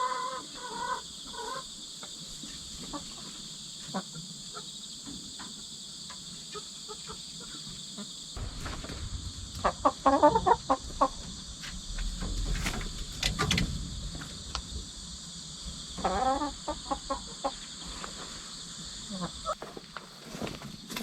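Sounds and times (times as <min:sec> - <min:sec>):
chickens clucking: 0:00.0 - 0:08.2, 0:09.5 - 0:19.6
crickets chirring: 0:00.0 - 0:21.0.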